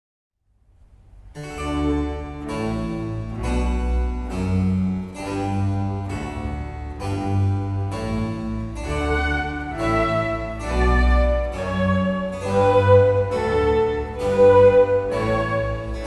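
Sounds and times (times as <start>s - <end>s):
classical harpsichord music: 1.4s - 16.0s.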